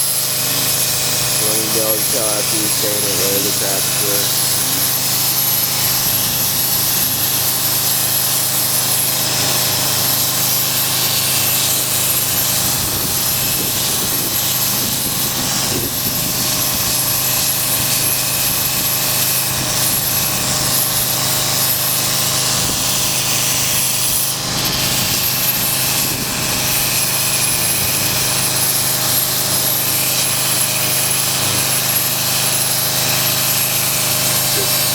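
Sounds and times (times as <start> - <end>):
grinder whining on concrete: 0.0 - 34.9.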